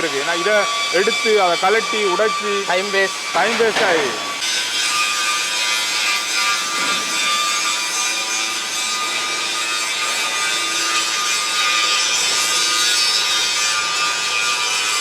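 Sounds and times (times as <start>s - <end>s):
hissing rasping power tool: 0.0s - 15.0s.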